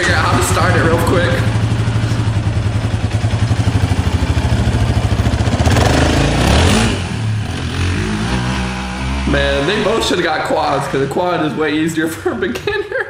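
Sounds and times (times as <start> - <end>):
quad engine idling and revving: 0.0 - 12.0.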